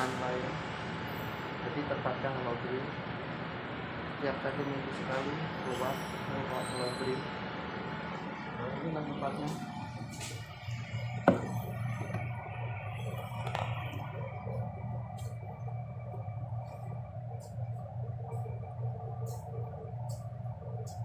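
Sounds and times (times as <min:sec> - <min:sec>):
laundromat machines humming: 0:00.0 - 0:21.0.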